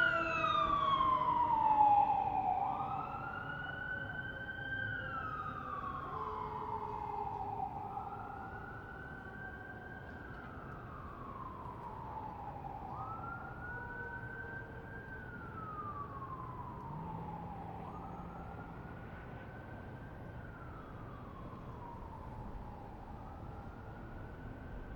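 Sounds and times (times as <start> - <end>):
city background hum: 0.0 - 24.9
fire engine siren wailing: 0.0 - 24.9.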